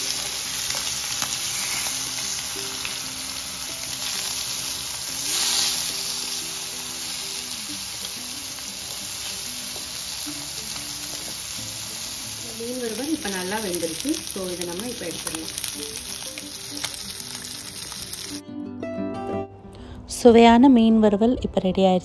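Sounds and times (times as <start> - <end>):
fish sizzling in oil: 0.0 - 18.4.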